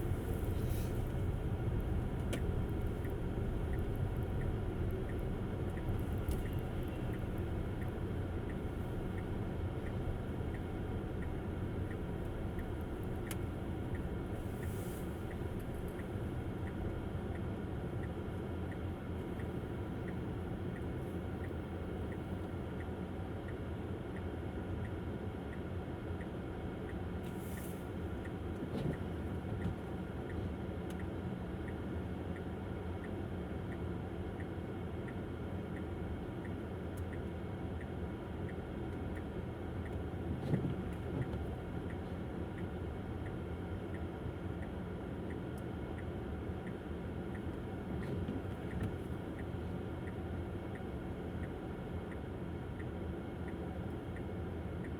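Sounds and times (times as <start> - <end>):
faint regular tick: 0.1 - 22.9, 26.9 - 35.2, 35.8 - 54.9.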